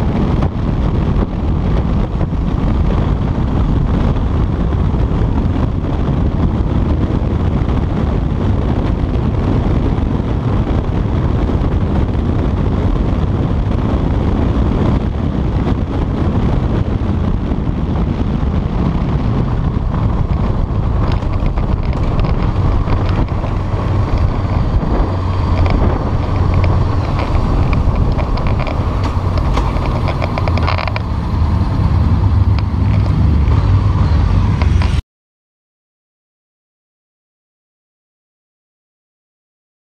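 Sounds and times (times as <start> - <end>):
motorcycle engine running: 0.0 - 35.0
wind rush on microphone: 0.0 - 35.0.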